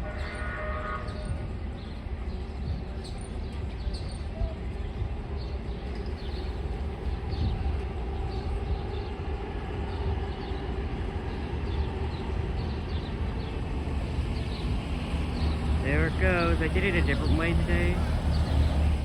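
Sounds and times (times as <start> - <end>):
train rumbling by: 0.0 - 19.0.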